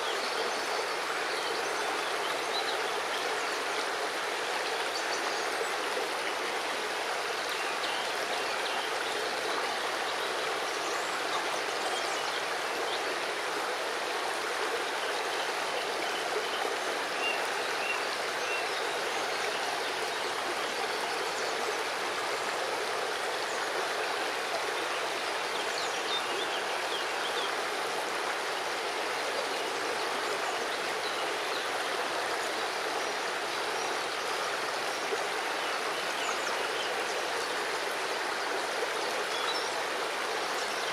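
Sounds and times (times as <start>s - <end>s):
river water running over stones: 0.0s - 40.9s.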